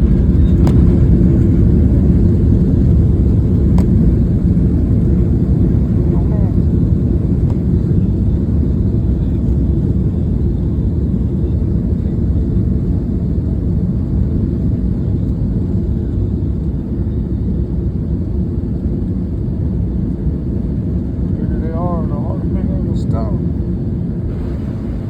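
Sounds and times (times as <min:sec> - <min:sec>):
airliner rolling low rumble: 0:00.0 - 0:25.0.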